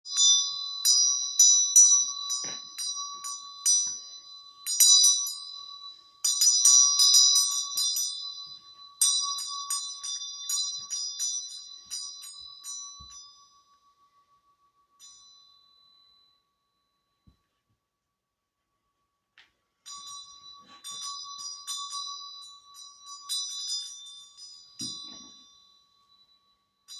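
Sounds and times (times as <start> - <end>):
small high-pitched bells ringing: 0.0 - 26.9.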